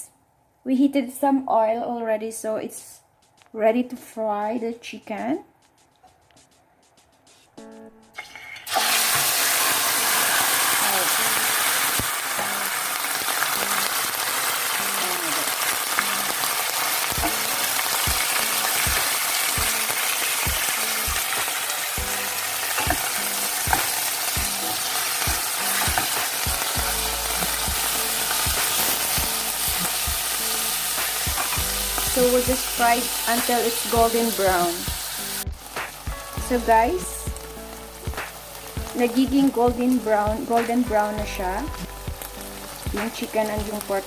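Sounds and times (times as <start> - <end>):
meat sizzling in hot oil: 8.2 - 44.0.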